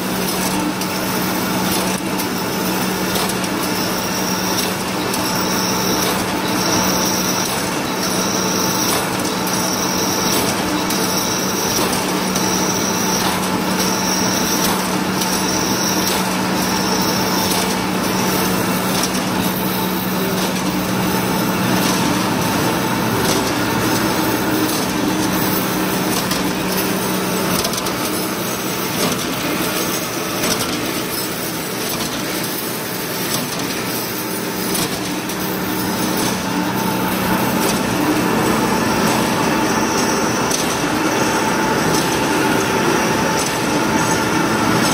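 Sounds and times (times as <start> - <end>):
wire drawing machine hum: 0.0 - 44.9.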